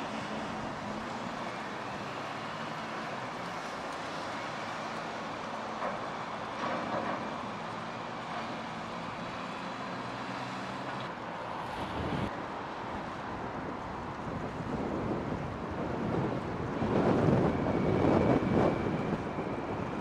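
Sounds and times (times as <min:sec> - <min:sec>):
vehicle noise: 0:00.0 - 0:20.0.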